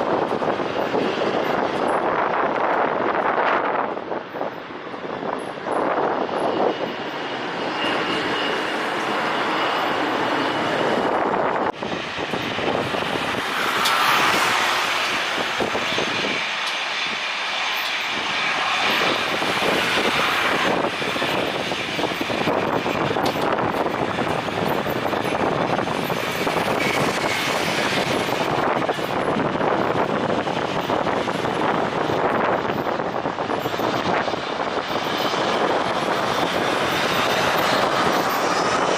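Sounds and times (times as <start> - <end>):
jet engines rushing with whine: 0.0 - 38.9.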